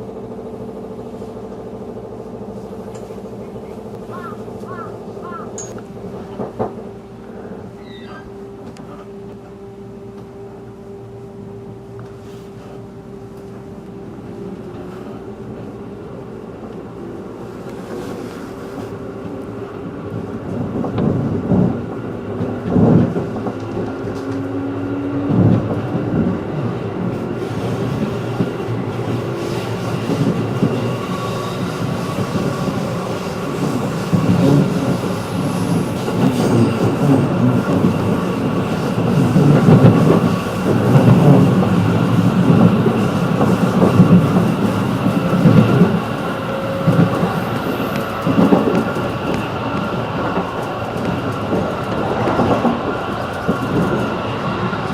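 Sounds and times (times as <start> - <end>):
rail clatter: 0.0 - 7.1, 17.6 - 54.9
train wheels and motors running: 0.0 - 54.9.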